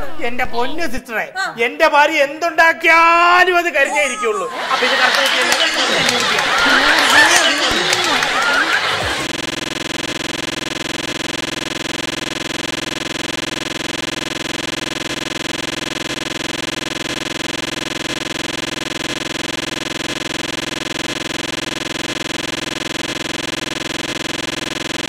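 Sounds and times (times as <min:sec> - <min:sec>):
electronic drone: 0:04.6 - 0:25.0.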